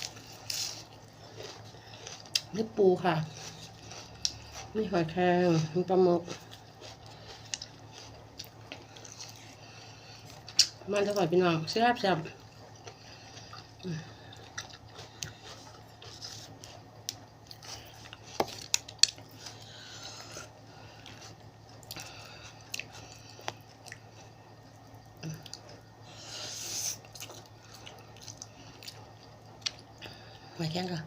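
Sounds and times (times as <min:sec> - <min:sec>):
wet chewing and mouth sounds: 0:00.0 - 0:11.4, 0:12.2 - 0:30.6.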